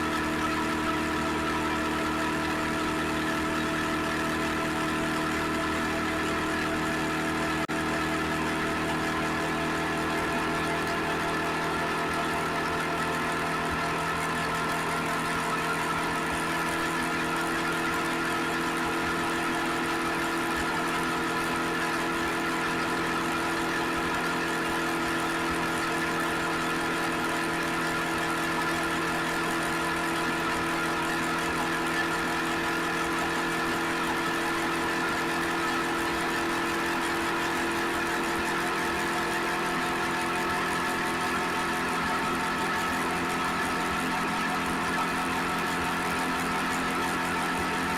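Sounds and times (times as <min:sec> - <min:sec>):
motorcycle engine running steadily: 0:00.0 - 0:47.9.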